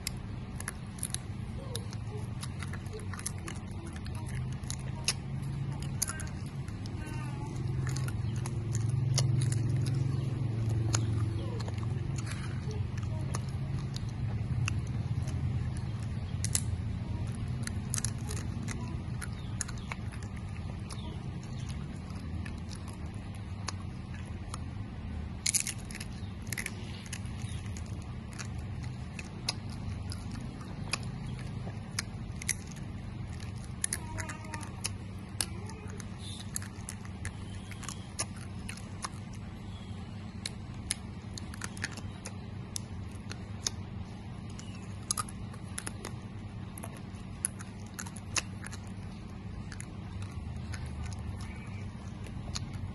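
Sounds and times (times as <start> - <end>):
low hum: 0.0 - 52.9
person chewing with mouth open: 0.0 - 52.9.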